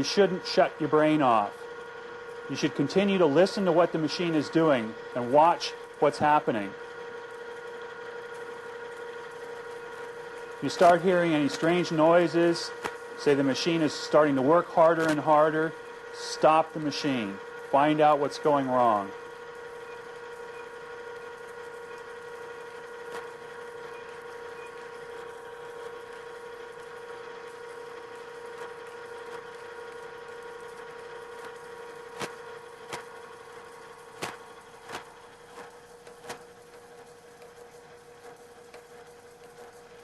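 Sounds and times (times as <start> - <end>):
drill press humming and whining: 0.0 - 40.0.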